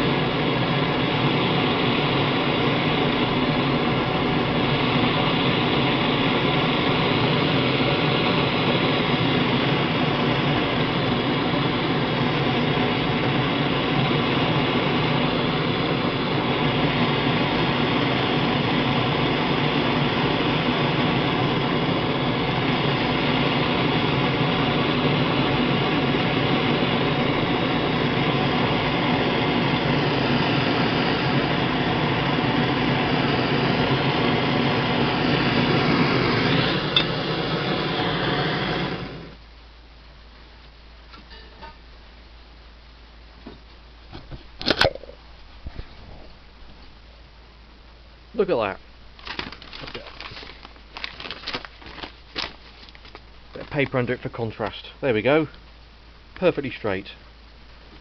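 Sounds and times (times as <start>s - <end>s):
propane torch hissing: 0.0s - 39.4s, 48.3s - 58.0s.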